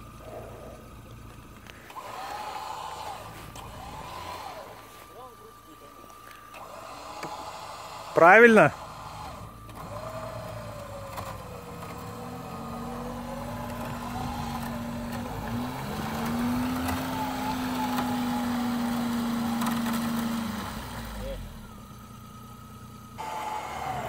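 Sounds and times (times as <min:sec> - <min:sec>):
winch humming: 0:00.0 - 0:24.0.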